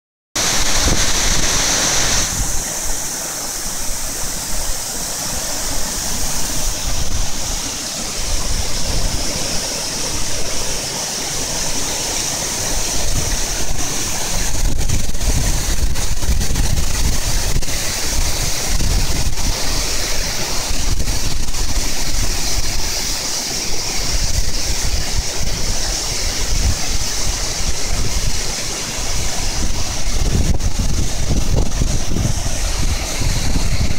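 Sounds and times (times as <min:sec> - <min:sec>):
wind buffeting microphone: 0:00.4 - 0:05.0, 0:05.8 - 0:10.9, 0:11.5 - 0:33.9
waterfall rushing: 0:00.4 - 0:33.9.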